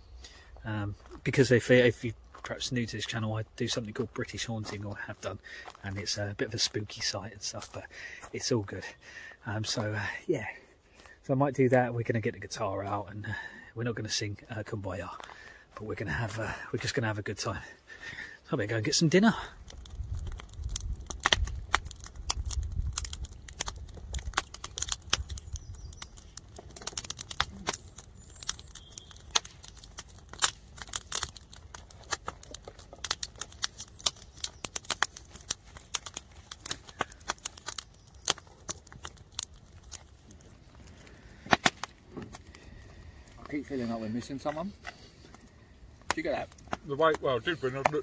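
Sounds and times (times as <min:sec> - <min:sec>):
campfire crackling and popping: 0:00.2 - 0:48.0.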